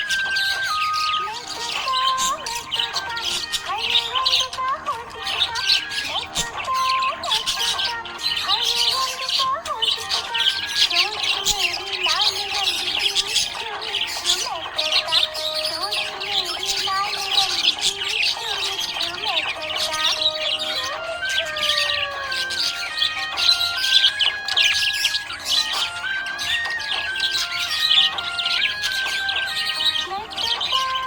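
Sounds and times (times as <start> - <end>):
budgerigars chirping and warbling: 0.0 - 31.0.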